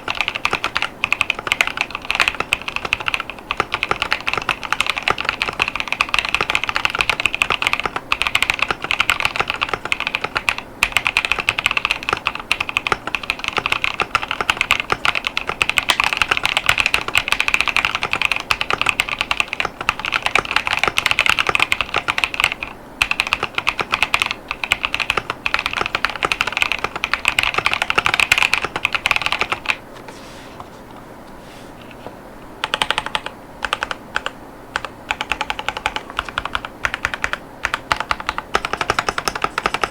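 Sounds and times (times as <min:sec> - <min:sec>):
mechanical keyboard typing: 0:00.0 - 0:29.8, 0:32.6 - 0:39.9.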